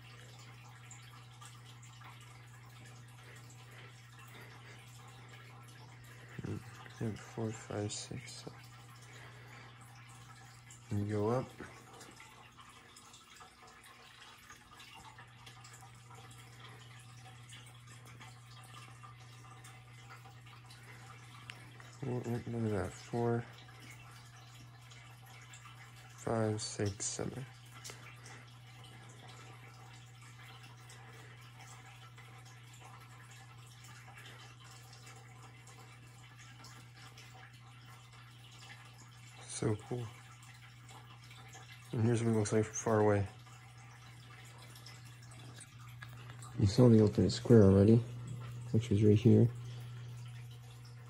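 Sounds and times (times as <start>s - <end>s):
steady low hum: 0.0s - 51.0s
faint ticks and clicks: 0.1s - 51.0s.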